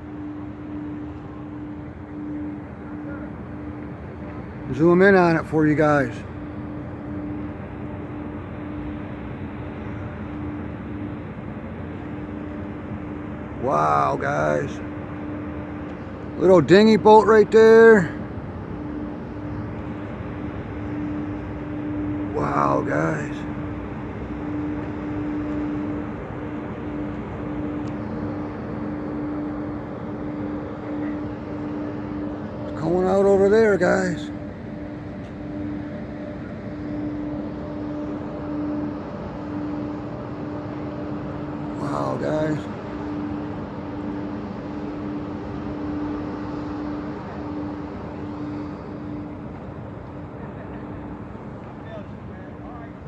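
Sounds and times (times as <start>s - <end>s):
engine drone: 0.0s - 53.0s
low rumbling wash: 0.0s - 53.0s.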